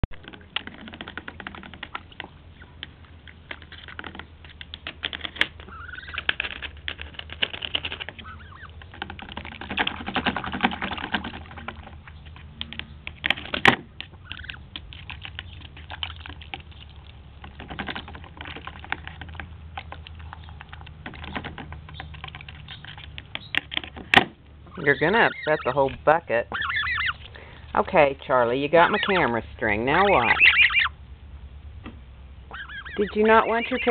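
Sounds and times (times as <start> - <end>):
goose bill clicking in water: 0.1 - 27.9.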